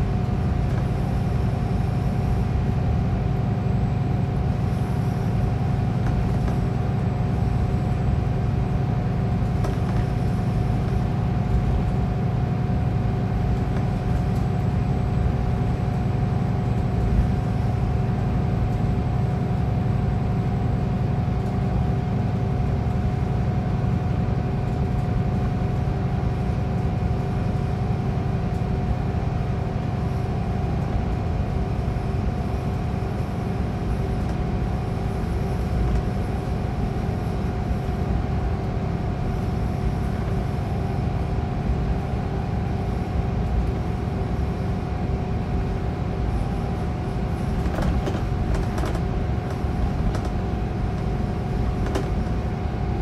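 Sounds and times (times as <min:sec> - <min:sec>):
diesel engine drone: 0:00.0 - 0:53.0
steady hum: 0:00.0 - 0:53.0.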